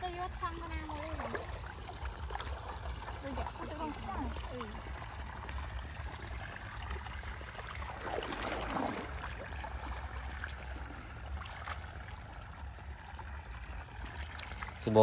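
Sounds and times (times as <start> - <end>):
stream water trickling: 0.0 - 15.0.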